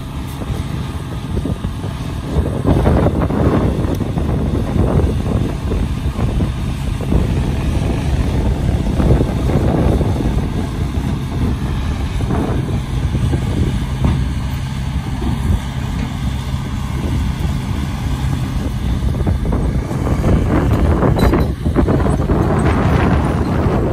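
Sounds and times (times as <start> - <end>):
diesel engines rumbling: 0.0 - 23.9.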